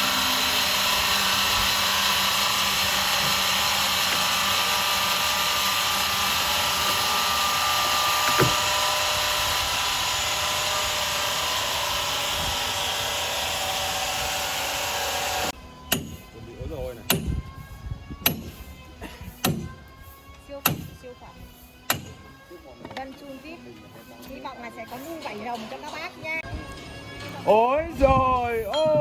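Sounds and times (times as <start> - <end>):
power saw cutting log: 0.0 - 26.4.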